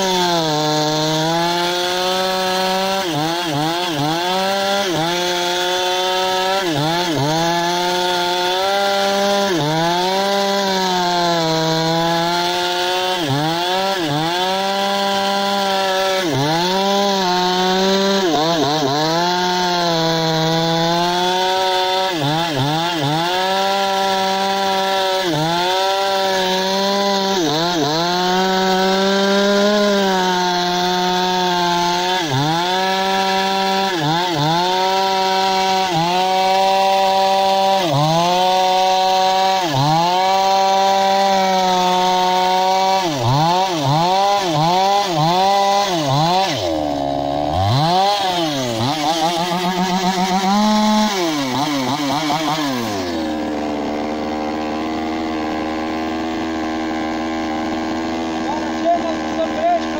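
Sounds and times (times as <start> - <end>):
chainsaw cutting through log: 0.0 - 59.9.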